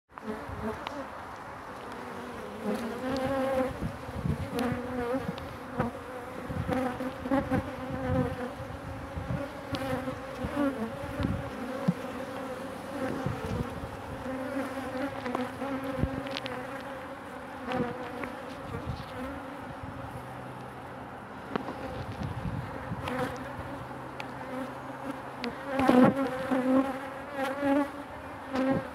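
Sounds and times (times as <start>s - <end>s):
bees buzzing: 0.2s - 28.9s.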